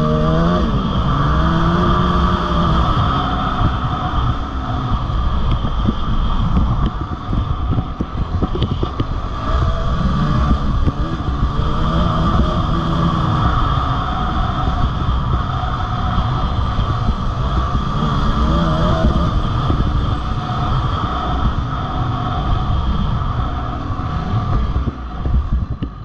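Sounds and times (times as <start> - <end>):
dirt bike engine: 0.0 - 26.0
wind noise on microphone: 0.0 - 26.0.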